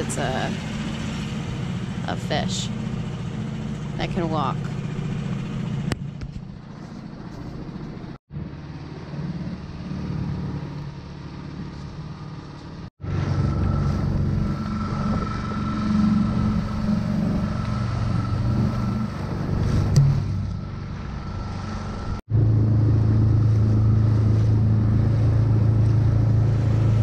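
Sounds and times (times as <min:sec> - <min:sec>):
small outboard motor running: 0:00.0 - 0:27.0.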